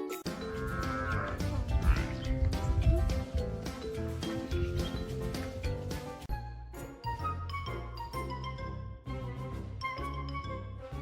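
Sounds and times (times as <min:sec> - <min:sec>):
background music with bass line: 0:00.2 - 0:11.0.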